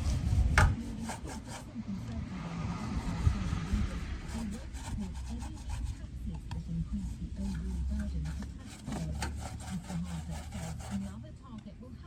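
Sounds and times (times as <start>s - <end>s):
rubbing and scraping strokes: 0.0s - 11.3s.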